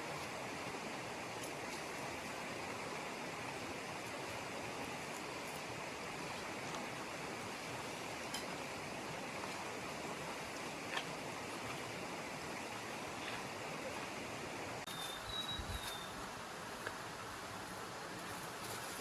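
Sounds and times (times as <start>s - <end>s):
stream water over rocks: 0.0s - 19.0s.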